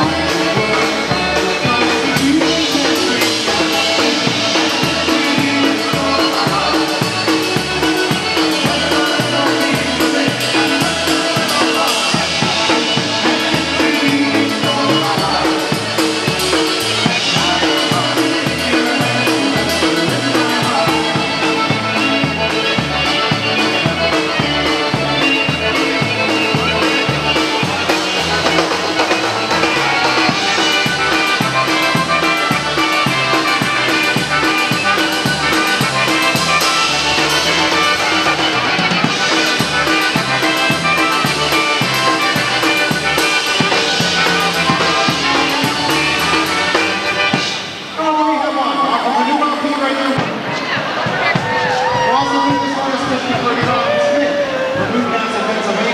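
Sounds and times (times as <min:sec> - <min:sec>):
drum kit beat: 0:00.0 - 0:48.0, 0:50.1 - 0:55.1
electric guitars: 0:00.0 - 0:55.9
polka band playing: 0:00.0 - 0:55.9.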